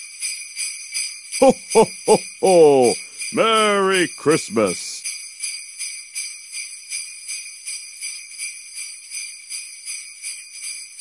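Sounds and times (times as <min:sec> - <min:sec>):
sleigh bells jingling: 0:00.0 - 0:11.0.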